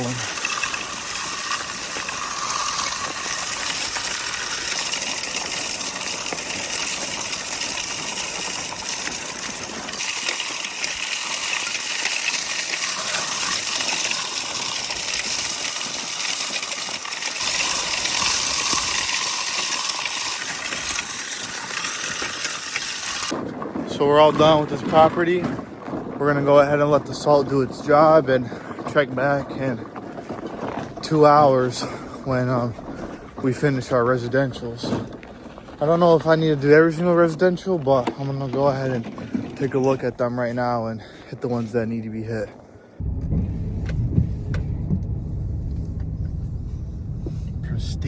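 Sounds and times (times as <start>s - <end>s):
salt spreader scattering grains: 0.0s - 40.9s.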